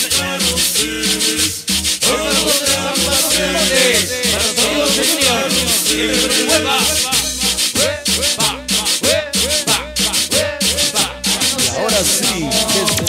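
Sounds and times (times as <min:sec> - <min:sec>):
dance music: 0:00.0 - 0:13.0.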